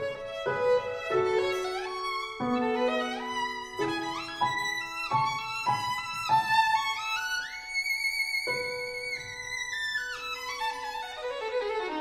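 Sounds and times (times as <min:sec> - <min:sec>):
slow violin melody: 0:00.0 - 0:12.0.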